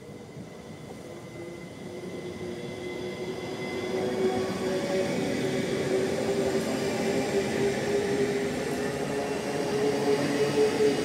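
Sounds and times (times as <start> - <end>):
electric train running past: 0.0 - 11.0
train whine rising in pitch: 0.0 - 11.0.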